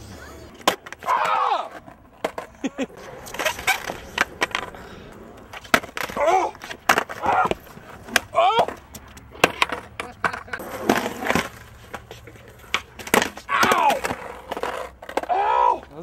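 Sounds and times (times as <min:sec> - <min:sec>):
voices calling out: 0:00.0 - 0:11.3, 0:12.1 - 0:16.0
skateboard trucks grinding: 0:00.0 - 0:16.0
skateboard wheels rolling: 0:00.0 - 0:16.0
skateboard clacks: 0:00.4 - 0:15.6.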